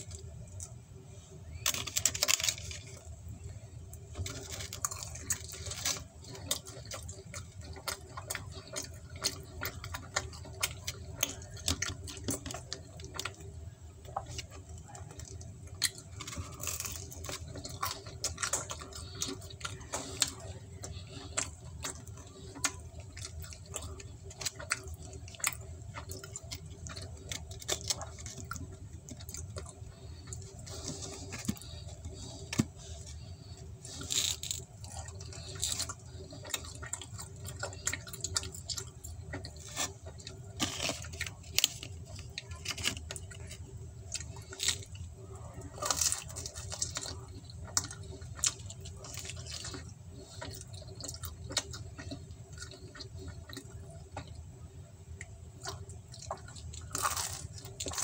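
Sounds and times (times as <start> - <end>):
person chewing pizza: 0.0 - 58.0
steady low hum: 0.0 - 58.0.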